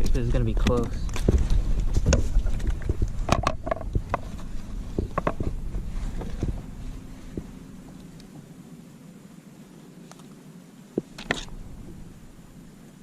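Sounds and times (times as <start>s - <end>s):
low rumble: 0.0s - 8.9s, 11.2s - 13.0s.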